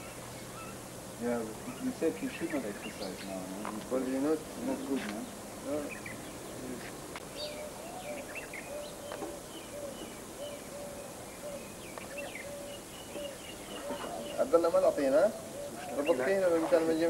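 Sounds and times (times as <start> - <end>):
birds chirping high: 0.0 - 17.0.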